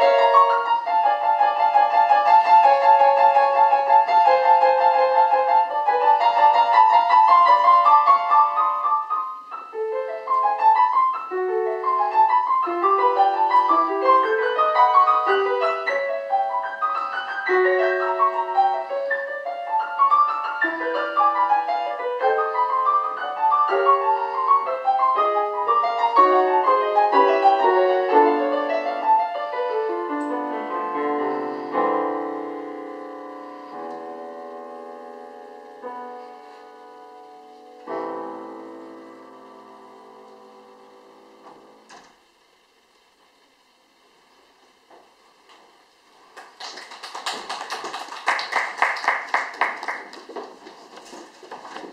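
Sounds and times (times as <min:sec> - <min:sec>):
solo piano piece: 0:00.0 - 0:46.6.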